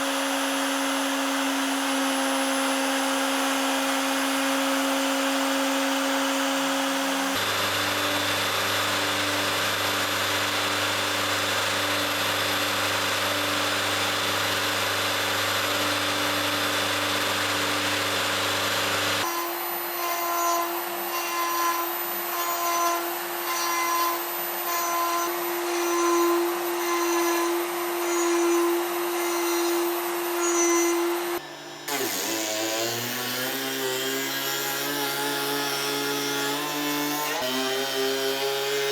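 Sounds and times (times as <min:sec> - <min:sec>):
milling cutter cutting: 0:00.0 - 0:38.9
router spindle whine: 0:00.0 - 0:38.9.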